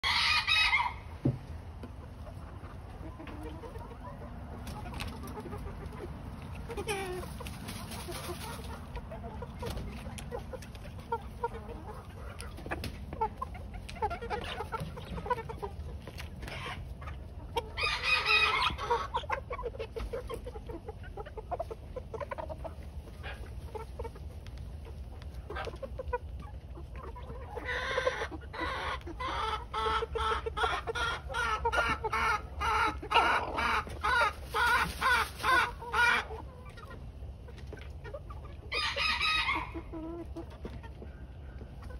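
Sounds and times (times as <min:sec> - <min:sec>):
cockerels clucking and calling: 0:00.0 - 0:41.9.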